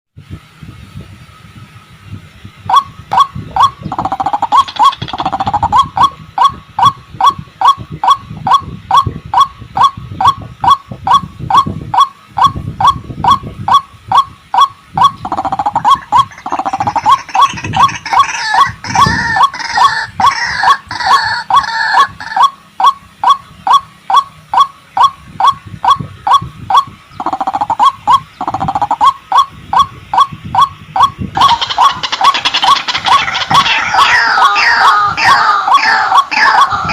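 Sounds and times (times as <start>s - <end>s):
harsh overlapping bird calls: 1.9s - 36.9s
waterhen calling kwak notes: 2.7s - 36.9s.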